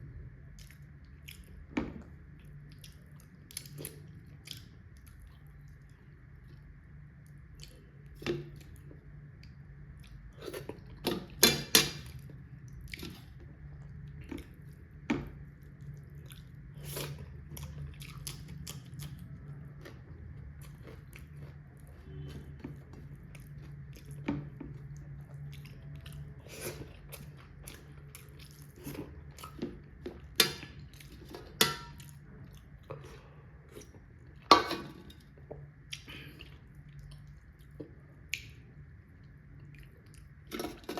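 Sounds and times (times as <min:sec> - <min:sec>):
low steady hum: 0:00.0 - 0:40.9
person chewing food: 0:00.4 - 0:40.8.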